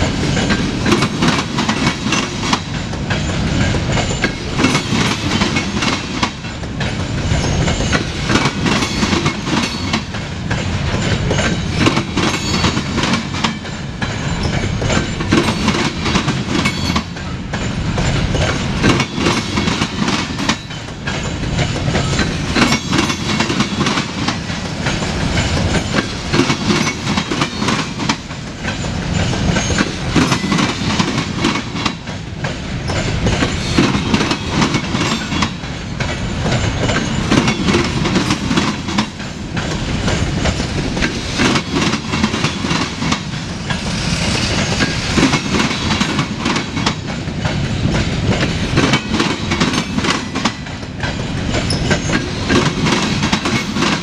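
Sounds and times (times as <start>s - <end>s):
steel wheels rumbling on rail: 0.0s - 54.0s
wheels clicking over rail joints: 0.0s - 54.0s.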